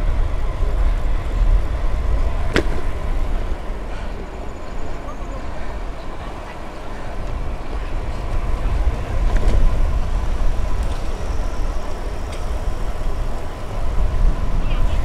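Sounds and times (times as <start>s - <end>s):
bicycle riding hum: 0.0s - 15.0s
wind rumbling on microphone: 0.0s - 15.0s.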